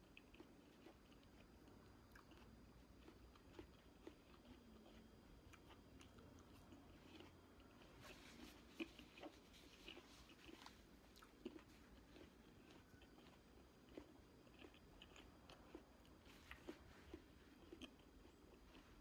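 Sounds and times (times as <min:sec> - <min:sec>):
person chewing fruit: 0:00.0 - 0:19.0.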